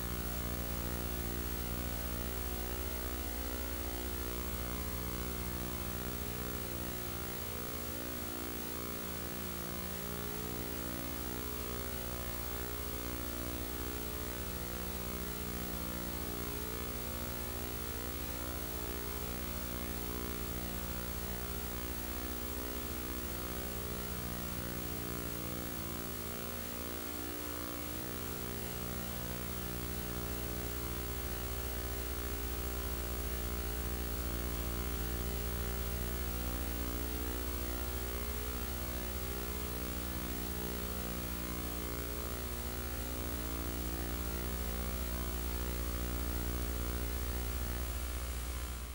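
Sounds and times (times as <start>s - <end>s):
constant hiss: 0.0s - 48.9s
electrical mains hum: 0.0s - 48.9s.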